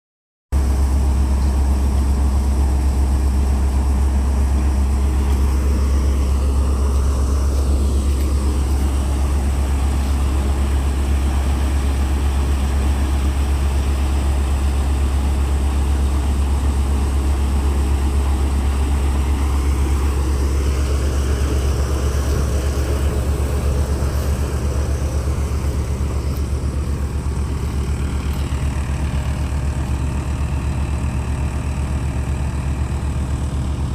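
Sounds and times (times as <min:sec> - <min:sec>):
tractor engine droning: 0:00.6 - 0:33.9.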